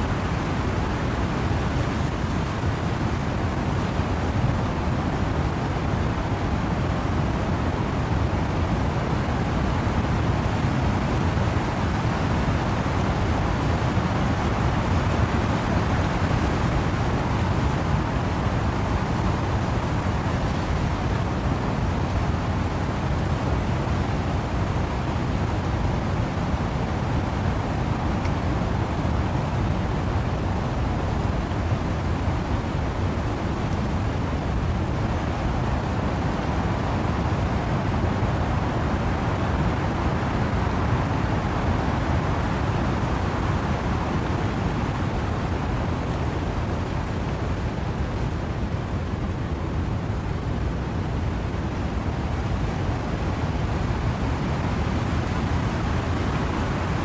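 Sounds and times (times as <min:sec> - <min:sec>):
wind and rain in trees: 0:00.0 - 0:57.0.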